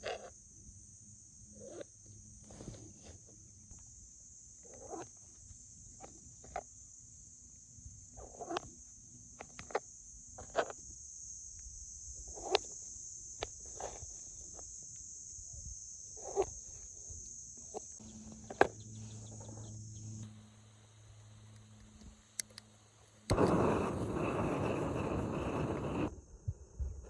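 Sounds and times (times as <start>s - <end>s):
insects chirring: 3.3s - 26.1s.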